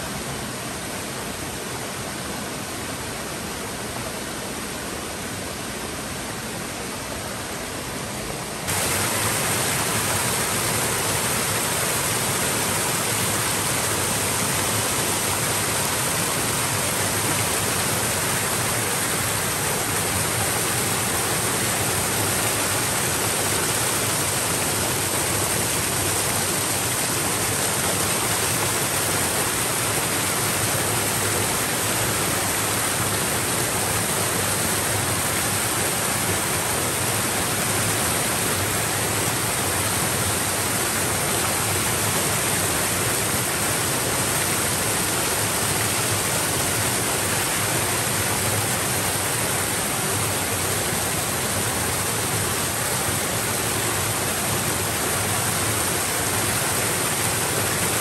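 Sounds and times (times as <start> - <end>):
waterfall rushing: 5.1 - 58.0.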